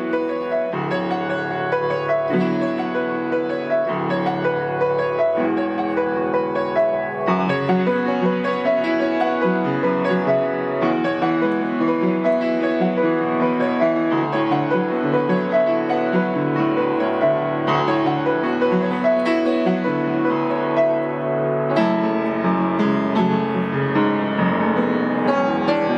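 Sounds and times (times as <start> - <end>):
solo piano: 0.0 - 25.9.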